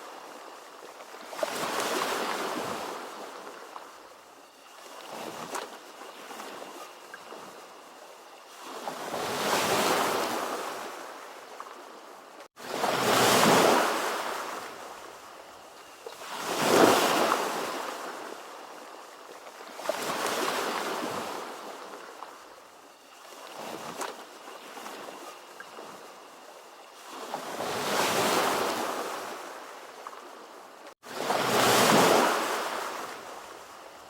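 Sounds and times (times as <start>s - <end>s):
ocean waves: 0.0s - 22.5s, 23.1s - 34.0s.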